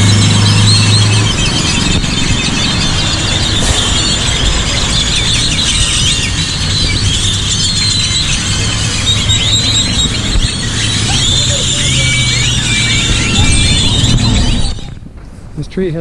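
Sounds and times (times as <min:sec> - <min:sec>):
flock of birds chirping: 0:00.0 - 0:15.0.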